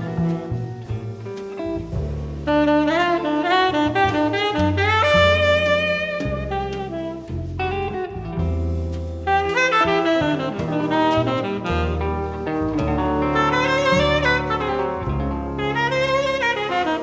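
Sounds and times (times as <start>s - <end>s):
jazz band playing: 0.0s - 17.0s
low bass notes: 0.0s - 17.0s
saxophone melody: 2.4s - 17.0s.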